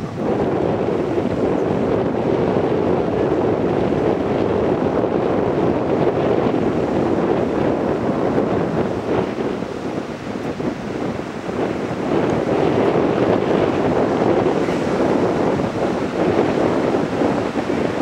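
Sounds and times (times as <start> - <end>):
surf breaking on beach: 0.0 - 18.0
wind on microphone: 0.0 - 18.0.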